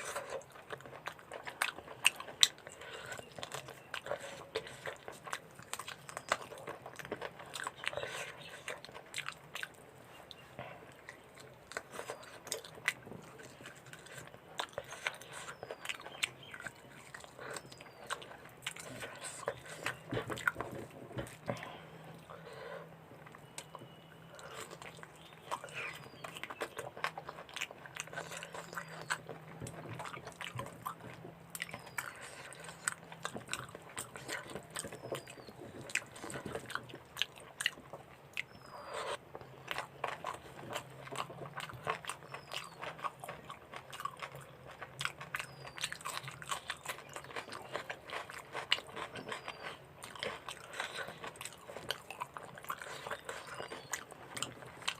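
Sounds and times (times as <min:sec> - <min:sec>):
faint low hum: 0:00.0 - 0:54.9
wet chewing and mouth smacks: 0:00.0 - 0:54.9.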